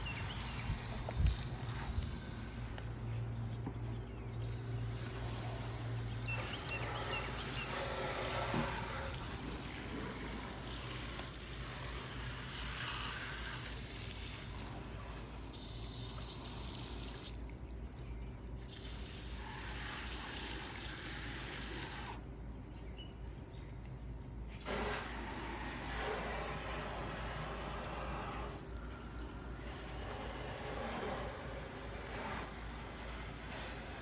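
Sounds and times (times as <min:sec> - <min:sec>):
water spraying from a hose: 0:00.0 - 0:03.6, 0:04.4 - 0:17.6, 0:18.6 - 0:22.2, 0:24.6 - 0:34.0.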